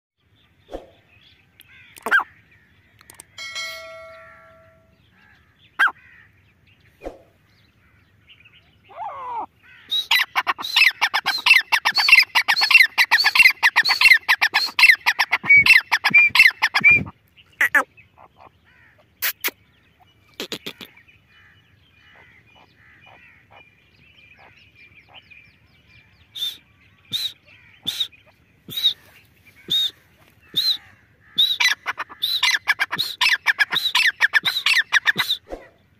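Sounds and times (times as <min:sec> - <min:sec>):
francolin calling: 0:03.0 - 0:06.3, 0:08.5 - 0:35.4.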